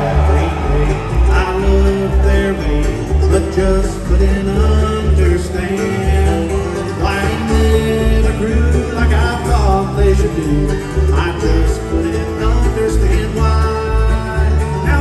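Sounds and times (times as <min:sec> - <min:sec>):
bluegrass band playing: 0:00.0 - 0:15.0
man singing lead vocal: 0:00.0 - 0:15.0.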